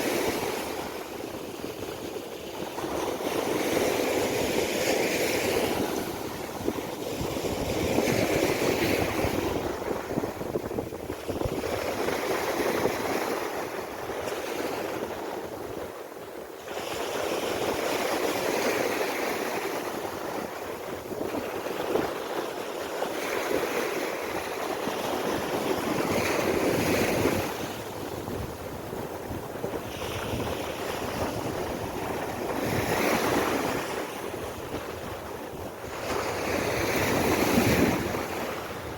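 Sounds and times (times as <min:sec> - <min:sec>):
waves washing onto beach: 0:00.0 - 0:38.9
wind on microphone: 0:00.0 - 0:38.9.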